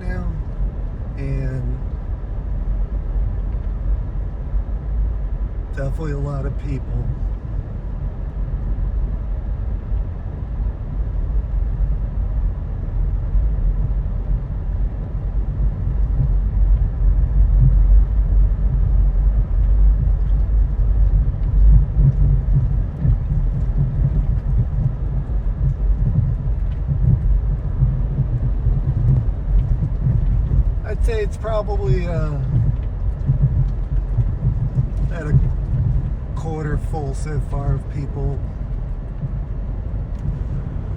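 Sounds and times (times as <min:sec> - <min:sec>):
car driving slowly: 0:00.0 - 0:40.9.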